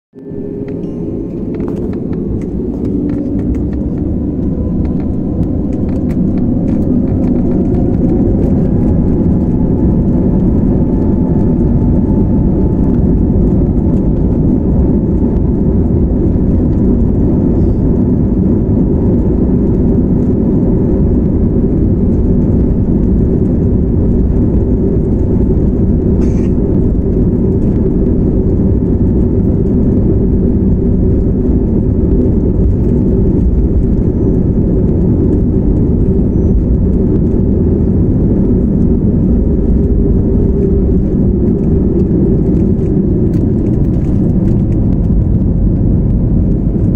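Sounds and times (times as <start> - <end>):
jet engines roaring: 0.1 - 46.9.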